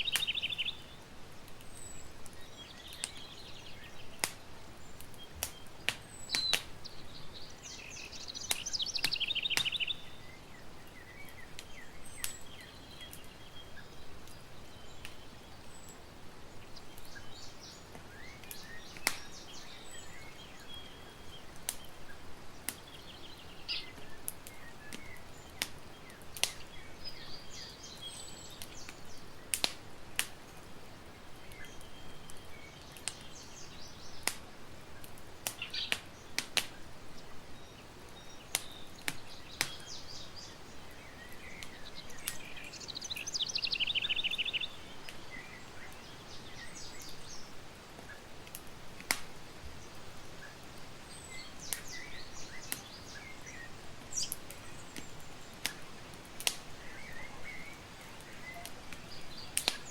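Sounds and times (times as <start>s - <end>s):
birds chirping: 0.0s - 59.9s
campfire crackling: 0.0s - 59.9s.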